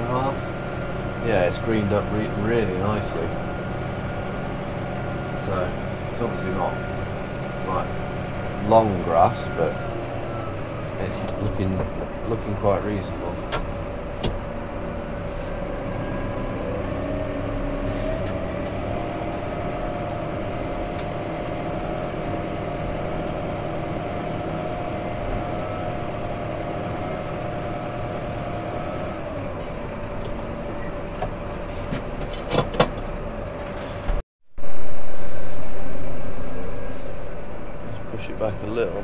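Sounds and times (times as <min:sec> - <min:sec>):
tractor engine from inside cab: 0:00.0 - 0:39.0.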